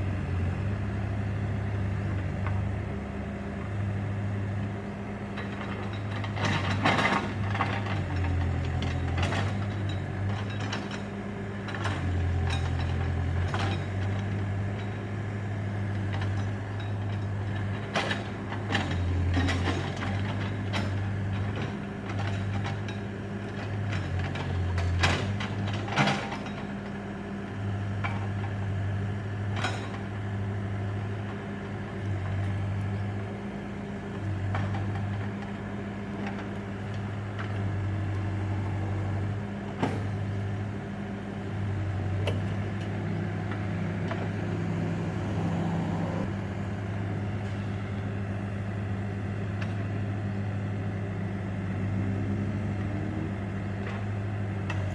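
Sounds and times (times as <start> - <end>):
backhoe engine running: 0.0 - 54.9.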